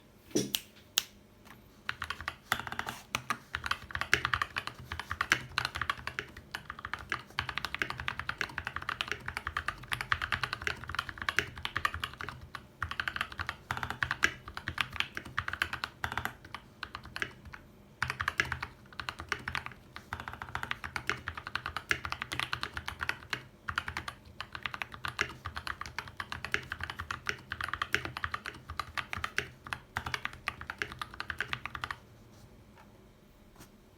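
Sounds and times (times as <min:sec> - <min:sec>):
mechanical keyboard typing: 0:01.9 - 0:32.0.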